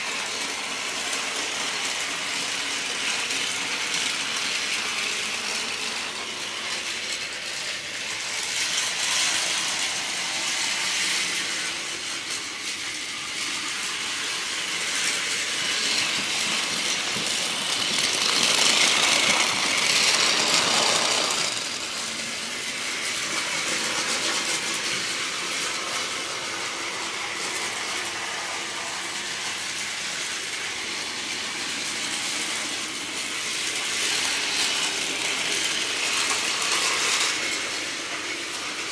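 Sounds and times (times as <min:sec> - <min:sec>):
toy trains whirring on track: 0:00.0 - 0:38.9.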